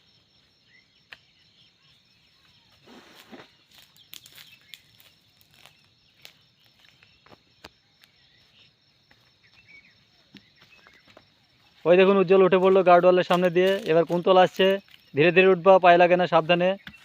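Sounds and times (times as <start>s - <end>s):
footsteps in dry brush: 2.3s - 17.0s.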